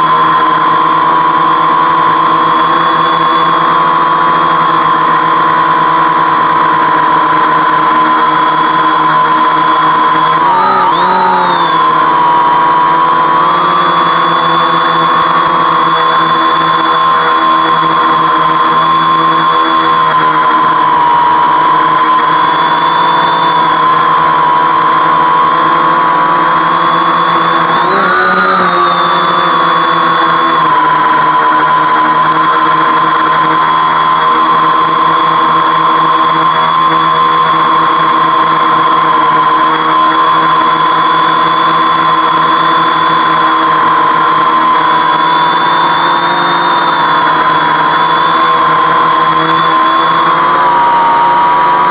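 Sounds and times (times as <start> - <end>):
drone propellers whining: 0.0 - 51.9.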